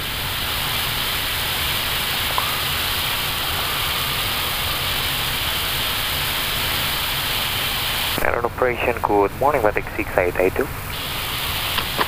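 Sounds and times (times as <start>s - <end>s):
airflow rushing in cockpit: 0.0s - 12.0s.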